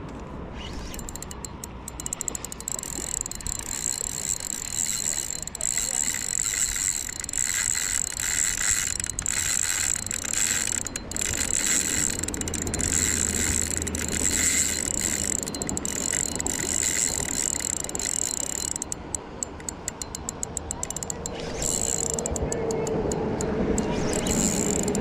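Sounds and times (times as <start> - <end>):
fishing reel gears whirring and clicking: 0.6 - 25.0.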